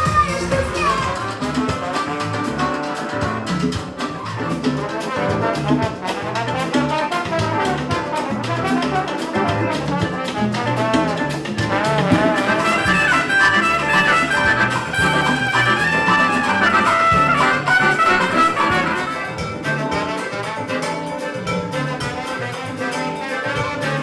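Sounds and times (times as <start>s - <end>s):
brass melody over a beat: 0.0s - 24.0s.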